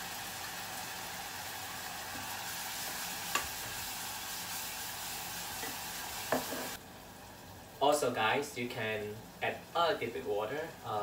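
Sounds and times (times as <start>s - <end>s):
sauce sizzling in hot oil: 0.0s - 11.0s.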